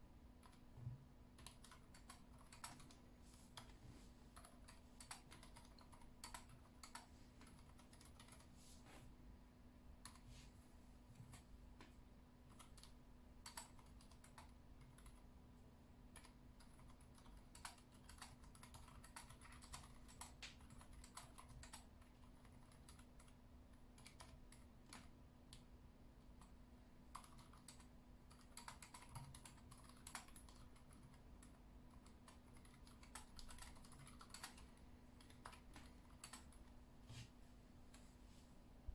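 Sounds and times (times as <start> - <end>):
soft muted keyboard typing: 0.2 - 8.7, 9.9 - 10.4, 11.0 - 38.2.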